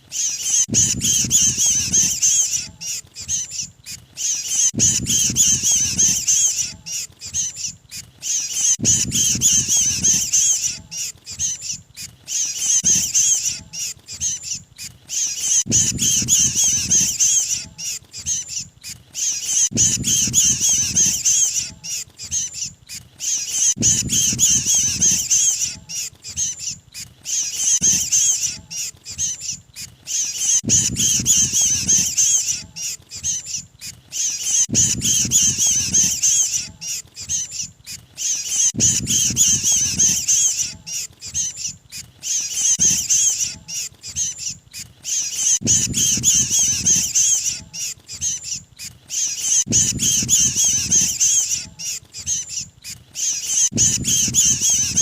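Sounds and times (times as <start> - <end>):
birds high-pitched distress chatter: 0.0 - 55.0.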